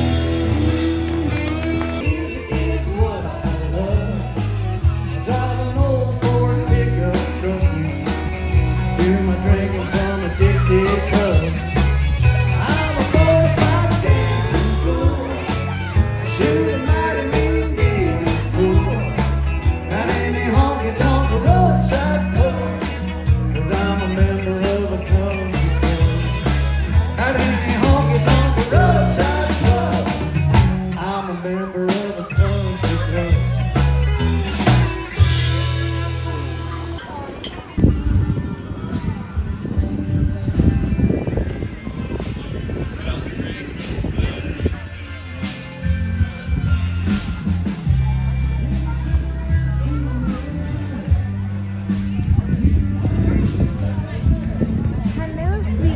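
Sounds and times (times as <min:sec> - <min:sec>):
rock and roll song with vocals: 0:00.0 - 0:55.9.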